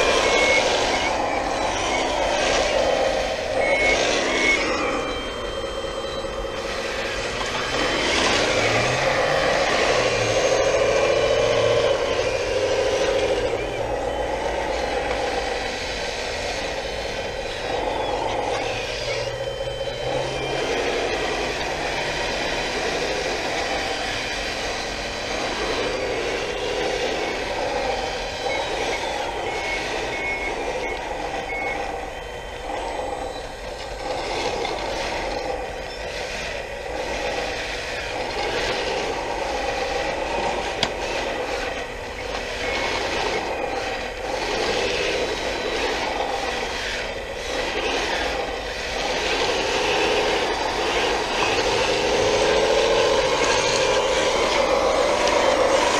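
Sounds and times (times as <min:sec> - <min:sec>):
electric motors and hydraulic whine: 0:00.0 - 0:55.9.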